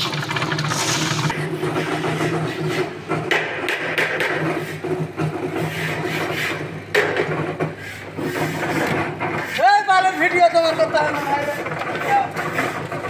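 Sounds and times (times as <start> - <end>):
concrete mixer humming: 0.0 - 13.0.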